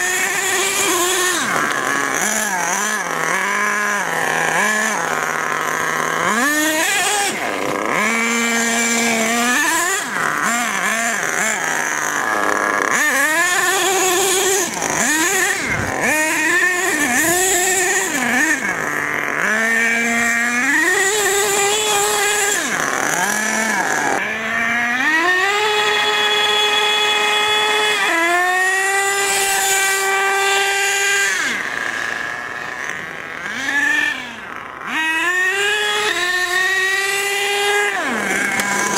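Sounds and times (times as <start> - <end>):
nitro engine revving: 0.0 - 38.9.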